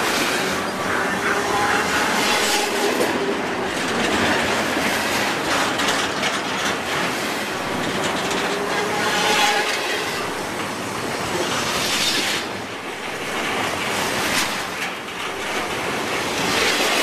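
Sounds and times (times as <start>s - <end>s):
train wheels on rails: 0.0s - 17.0s
wheel trucks clacking: 0.0s - 17.0s.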